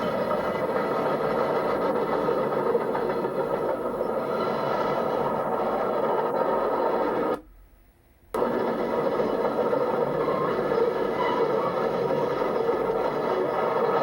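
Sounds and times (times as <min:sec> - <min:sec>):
freight train rolling by: 0:00.0 - 0:07.4, 0:08.4 - 0:14.0.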